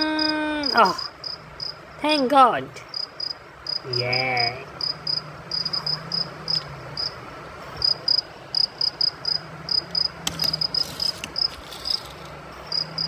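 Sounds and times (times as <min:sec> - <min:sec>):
cricket chirping: 0:00.0 - 0:02.0, 0:02.9 - 0:13.0.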